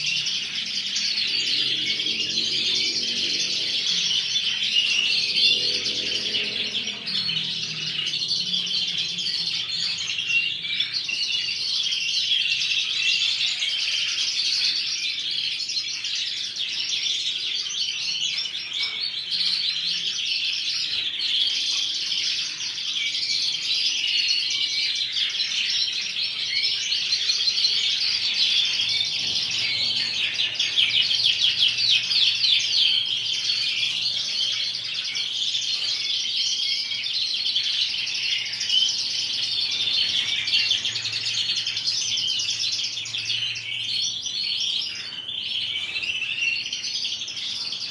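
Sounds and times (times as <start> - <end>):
canaries singing and chirping: 0.0 - 47.9.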